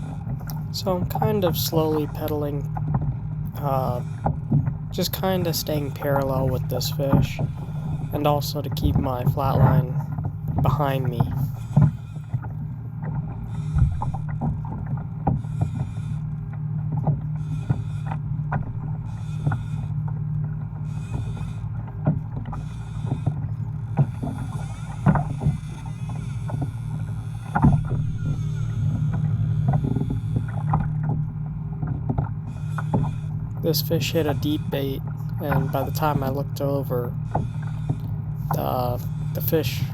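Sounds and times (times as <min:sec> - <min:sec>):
knocks and clicks on hull: 0:00.0 - 0:39.9
low hum: 0:00.0 - 0:39.9
soft water hiss: 0:00.0 - 0:39.9.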